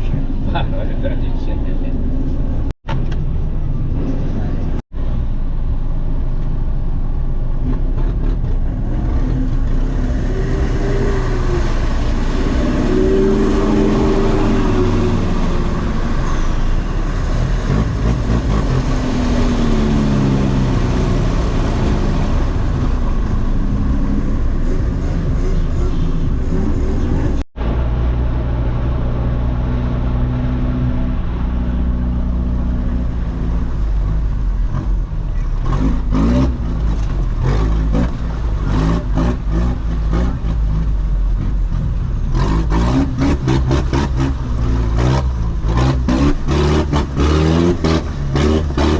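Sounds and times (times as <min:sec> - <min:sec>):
vehicle engine revving: 0:07.5 - 0:48.9.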